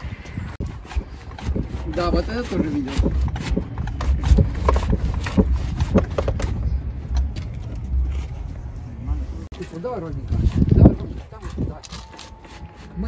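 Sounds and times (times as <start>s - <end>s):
motorcycle engine rumbling: 0.0s - 11.8s.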